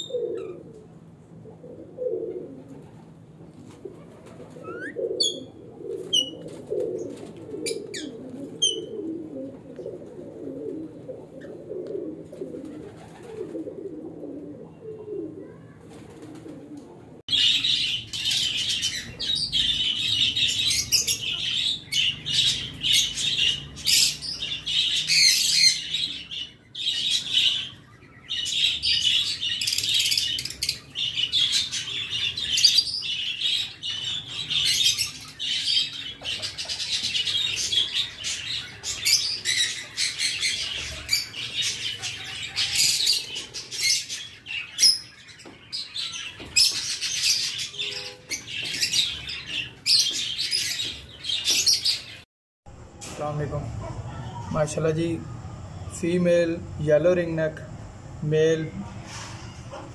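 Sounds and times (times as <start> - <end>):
many birds chirping and chattering: 2.2 - 13.6, 14.5 - 52.3, 53.3 - 59.9.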